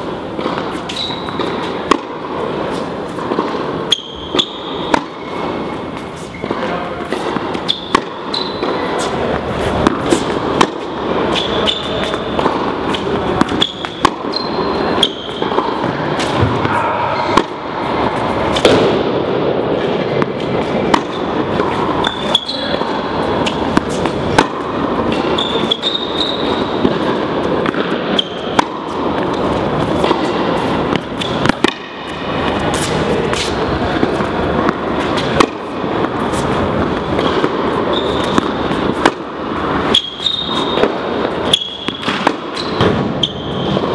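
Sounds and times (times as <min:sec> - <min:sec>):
shoes squeaking on court: 0:00.0 - 0:19.0, 0:19.8 - 0:43.9
steady background noise: 0:00.0 - 0:43.9
tennis ball struck by racket: 0:00.2 - 0:43.9.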